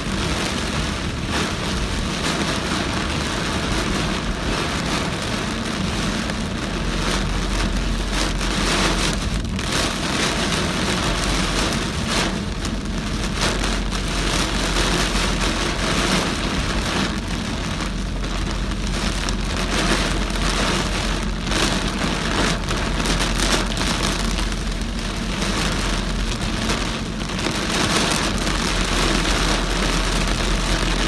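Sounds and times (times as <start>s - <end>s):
car and road rumble: 0.0s - 31.0s
heavy rain on car: 0.0s - 31.0s.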